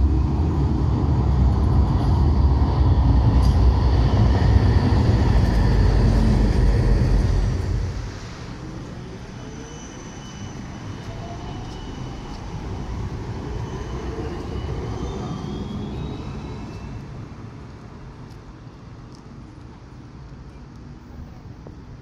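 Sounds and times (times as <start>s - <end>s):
tram passing with whining drive: 0.0s - 22.0s.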